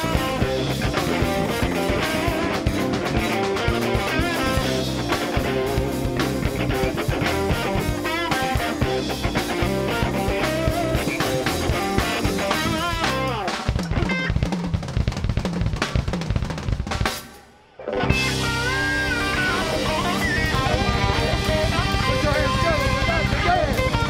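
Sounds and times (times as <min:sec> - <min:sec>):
electric guitar solo: 0:00.0 - 0:14.4, 0:17.7 - 0:24.0
bass guitar: 0:00.0 - 0:24.0
drums: 0:00.0 - 0:24.0.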